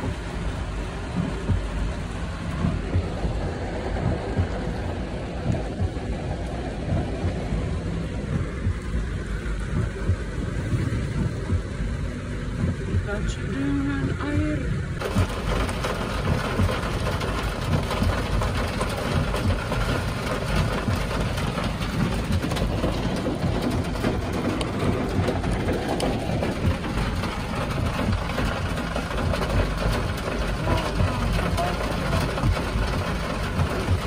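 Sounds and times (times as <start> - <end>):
car engine idling: 0.0 - 34.0
heavy rain on a car roof: 0.0 - 34.0.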